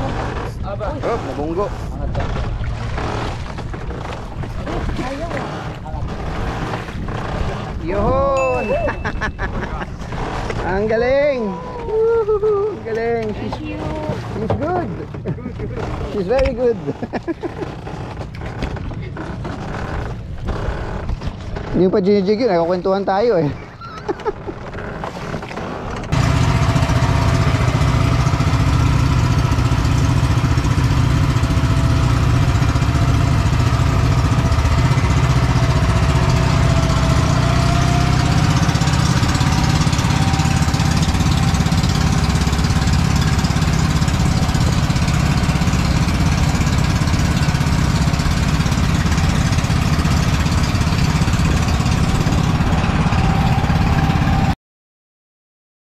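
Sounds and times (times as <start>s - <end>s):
boat engine droning: 0.0s - 54.6s.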